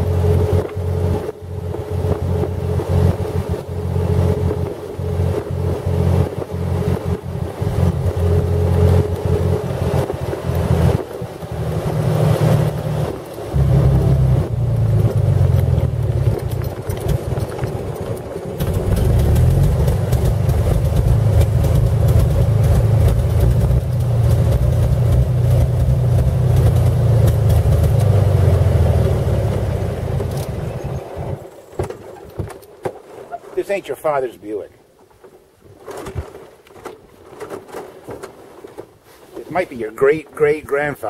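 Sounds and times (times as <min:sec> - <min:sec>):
car engine rumbling: 0:00.0 - 0:34.0.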